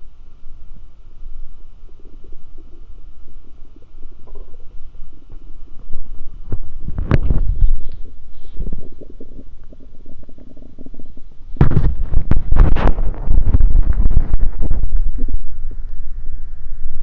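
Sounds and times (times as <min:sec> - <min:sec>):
stomach growling and gurgling: 0:00.0 - 0:17.0.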